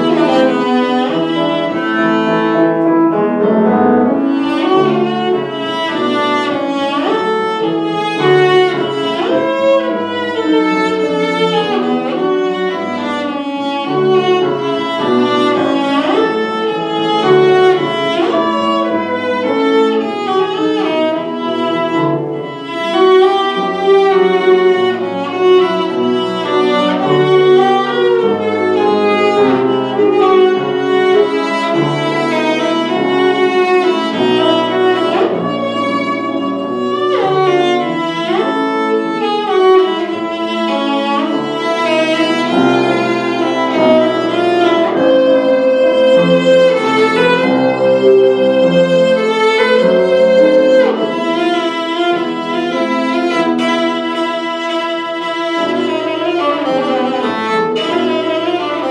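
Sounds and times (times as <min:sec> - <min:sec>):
violin melody with vibrato: 0:00.0 - 0:58.9.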